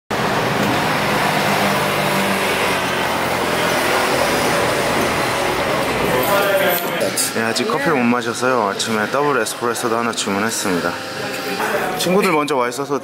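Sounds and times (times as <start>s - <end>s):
car passing: 0.1s - 12.0s
steady road noise: 0.1s - 12.2s.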